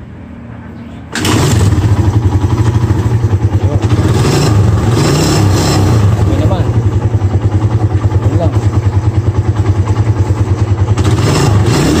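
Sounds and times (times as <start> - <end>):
motorcycle engine starting and running: 0.7 - 12.0.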